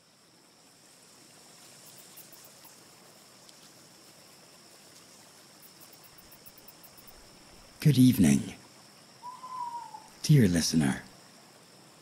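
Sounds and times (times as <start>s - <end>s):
high-pitched insect tone: 0.0s - 12.0s
soft rush of stream or breeze: 0.0s - 12.0s.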